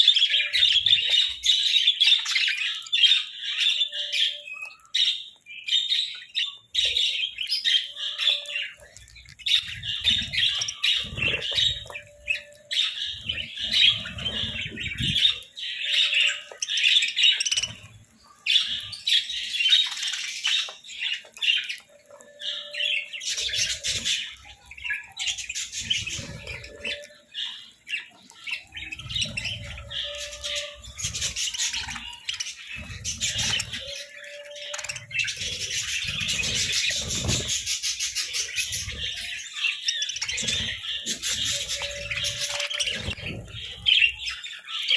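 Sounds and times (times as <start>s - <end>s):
budgerigars chattering and chirping: 0.0s - 44.9s.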